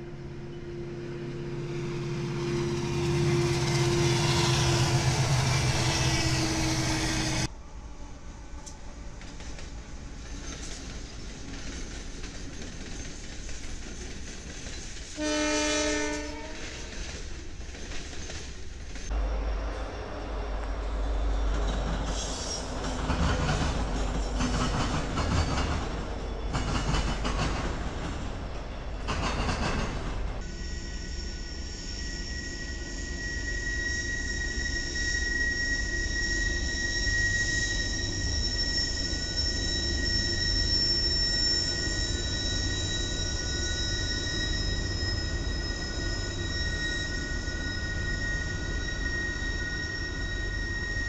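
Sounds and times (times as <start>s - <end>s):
train wheels squealing on rail: 0.0s - 7.5s, 8.4s - 51.0s
train wheels rumbling: 0.0s - 51.0s.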